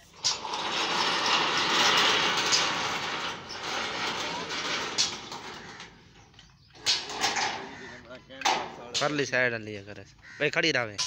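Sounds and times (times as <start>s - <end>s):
steel frame scraping: 0.0s - 9.3s.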